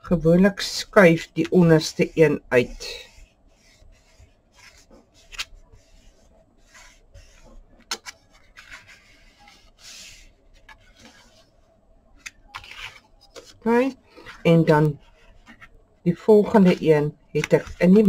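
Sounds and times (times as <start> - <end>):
paper rustling and rubbing: 0.6 - 15.8, 16.4 - 18.0.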